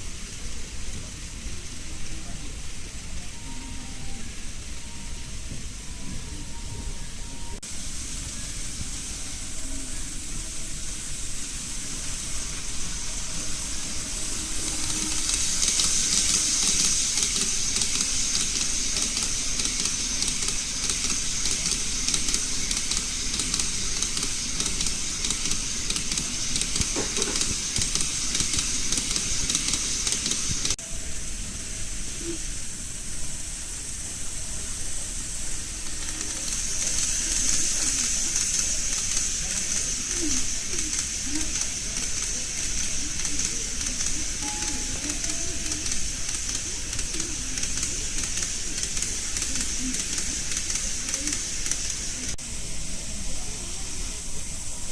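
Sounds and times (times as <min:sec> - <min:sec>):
model train wheels on rail: 0:00.0 - 0:54.9.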